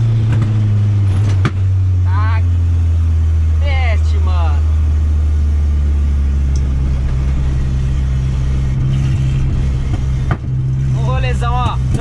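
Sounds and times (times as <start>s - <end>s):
car engine heard from cabin: 0.0s - 12.0s.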